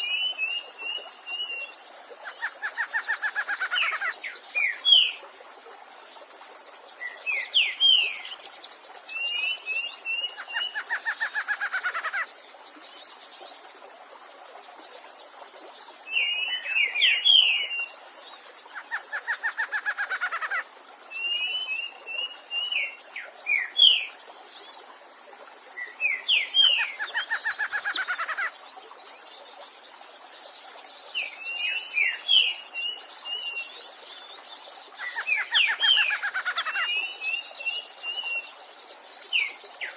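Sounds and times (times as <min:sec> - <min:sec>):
stream hiss: 0:00.0 - 0:39.9.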